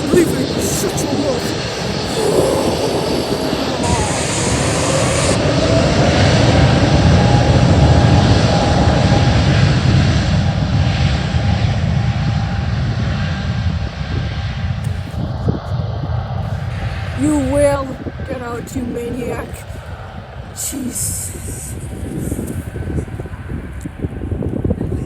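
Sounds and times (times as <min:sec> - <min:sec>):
airliner engines rumbling: 0:00.0 - 0:25.0.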